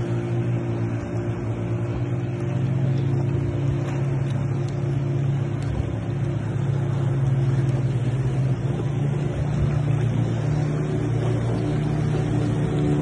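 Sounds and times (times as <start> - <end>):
boat engine droning: 0.0 - 13.0
water wash: 0.0 - 13.0.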